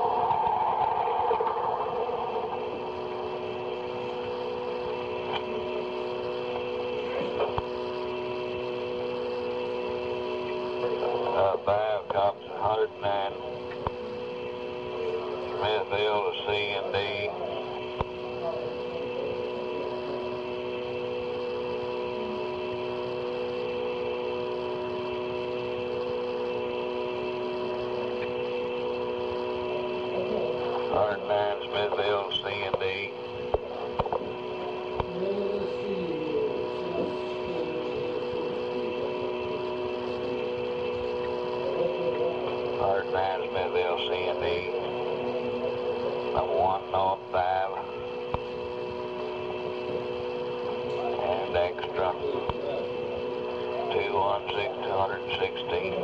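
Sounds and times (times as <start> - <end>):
constant tones: 0.0 - 56.0
telephone line hum and hiss: 0.0 - 56.0.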